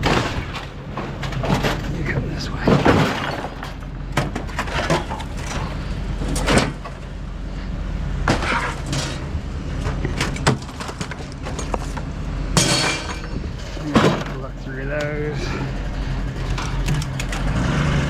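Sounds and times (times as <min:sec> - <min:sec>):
scrap items knocking and clunking: 0:00.0 - 0:07.0, 0:08.2 - 0:17.7
steady low hum: 0:00.0 - 0:18.0.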